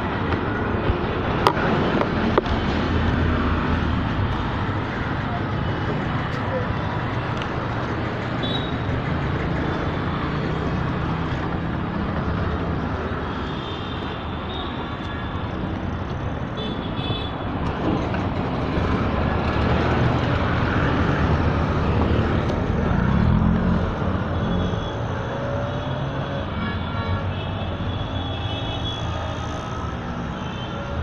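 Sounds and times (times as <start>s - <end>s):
passing vehicles: 0.0s - 31.0s.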